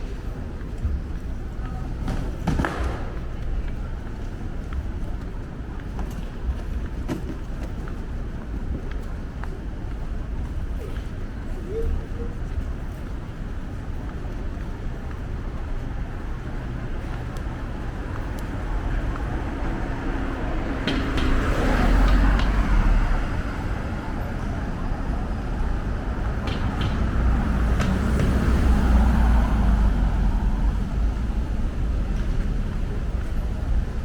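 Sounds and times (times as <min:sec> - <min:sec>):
street noise: 0:00.0 - 0:34.0
vehicles passing with deep rumble: 0:00.0 - 0:34.0.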